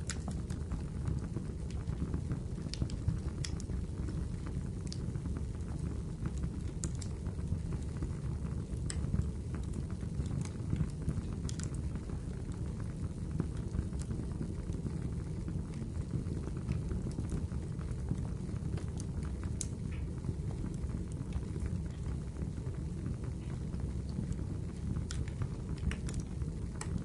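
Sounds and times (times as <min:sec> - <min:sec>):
fire crackling and popping: 0:00.0 - 0:27.0
fire flames rumbling: 0:00.0 - 0:27.0.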